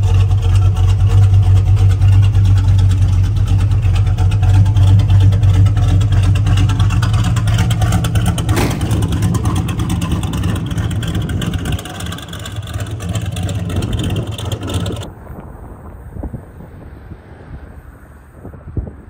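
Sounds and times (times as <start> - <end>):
engine running steadily: 0.0 - 15.5.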